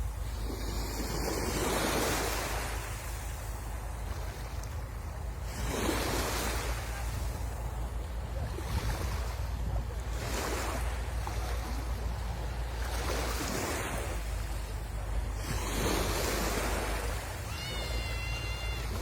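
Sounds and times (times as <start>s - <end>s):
wind rumble on microphone: 0.0s - 17.5s, 18.1s - 19.0s
sea waves washing onto shore: 0.0s - 19.0s.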